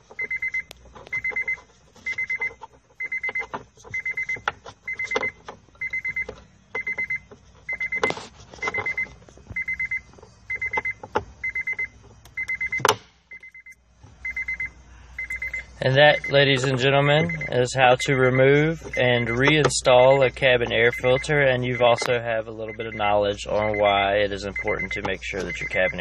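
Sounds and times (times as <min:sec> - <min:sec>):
car warning chime beeping: 0:00.0 - 0:26.0.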